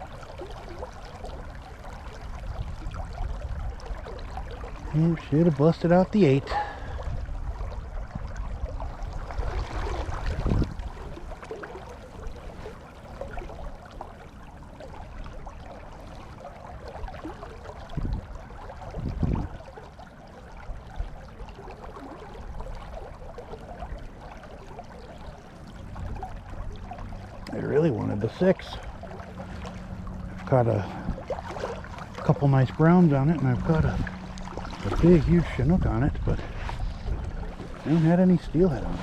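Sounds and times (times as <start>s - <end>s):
river water running: 0.0s - 39.0s
wind rumbling on microphone: 0.0s - 39.0s.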